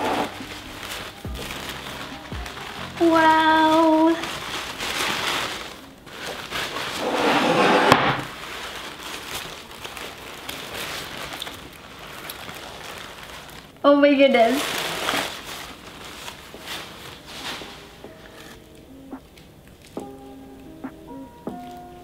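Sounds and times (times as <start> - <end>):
packing paper crinkling: 0.0 - 7.2, 8.2 - 20.3.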